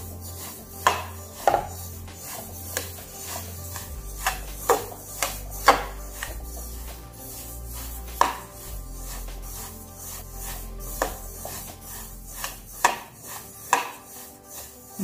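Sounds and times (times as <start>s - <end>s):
soft background music: 0.0s - 15.0s
spatula scraping roasting seeds: 0.0s - 15.0s.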